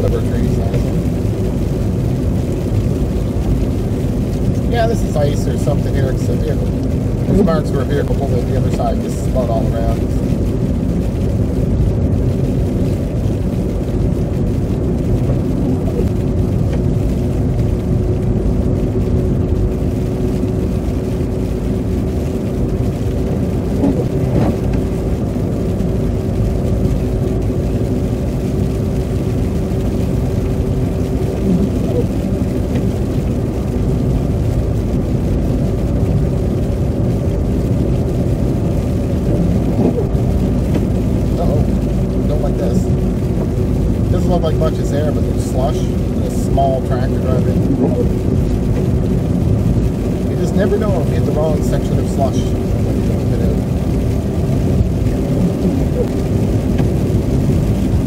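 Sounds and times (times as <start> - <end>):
tyre and engine rumble: 0.0 - 58.0.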